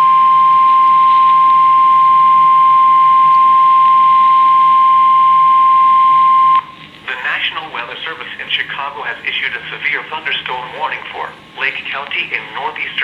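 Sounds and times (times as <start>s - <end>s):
weather radio alarm tone: 0.0s - 13.0s.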